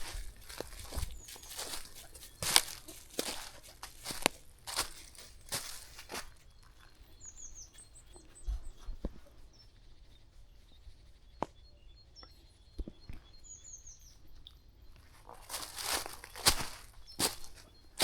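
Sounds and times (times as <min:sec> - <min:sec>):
songbird chirping: 0:00.0 - 0:18.0.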